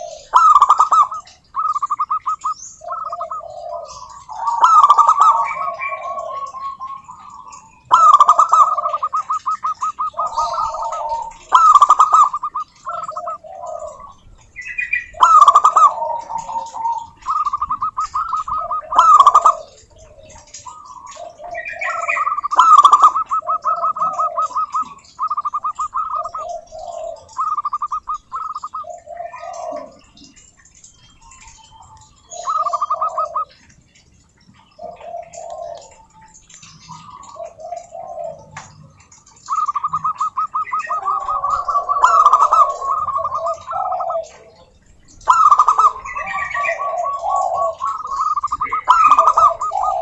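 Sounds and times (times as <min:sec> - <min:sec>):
dove cooing: 0:00.0 - 0:50.0.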